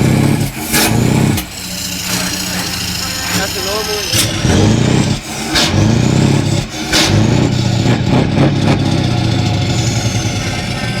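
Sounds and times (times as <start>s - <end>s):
truck diesel engine revving: 0.0s - 11.0s.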